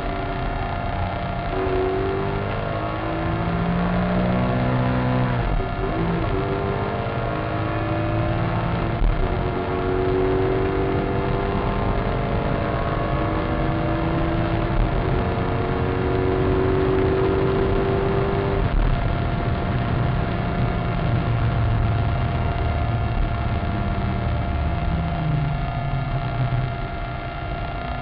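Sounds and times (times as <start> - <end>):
car engine accelerating: 0.0 - 28.0
constant tone: 0.0 - 28.0.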